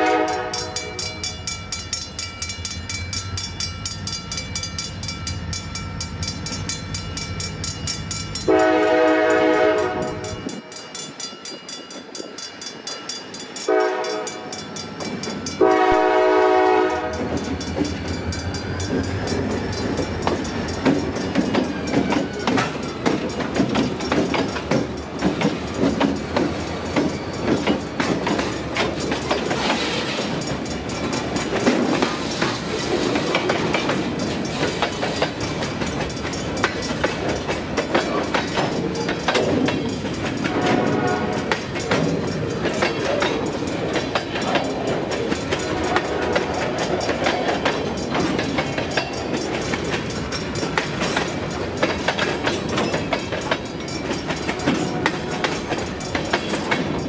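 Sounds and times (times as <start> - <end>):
crossing bell ringing: 0.0 - 57.0
diesel locomotive passing: 0.0 - 57.0
train wheels clacking over rail joints: 6.3 - 57.0.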